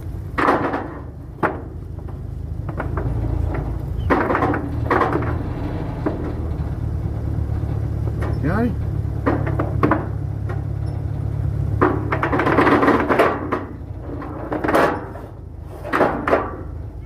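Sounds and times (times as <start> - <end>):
gear knocking and clattering: 0.0 - 17.0
low engine hum: 0.0 - 17.0.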